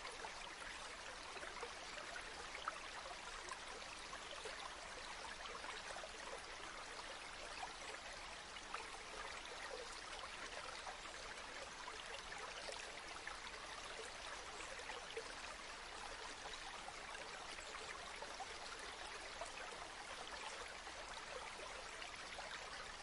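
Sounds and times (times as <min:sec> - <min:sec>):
river water flowing: 0:00.0 - 0:23.0
small splashes and trickles: 0:00.0 - 0:23.0.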